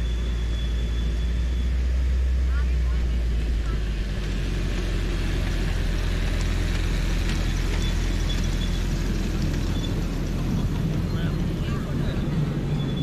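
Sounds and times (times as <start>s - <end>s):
miniature train rumbling past: 0.0s - 13.0s.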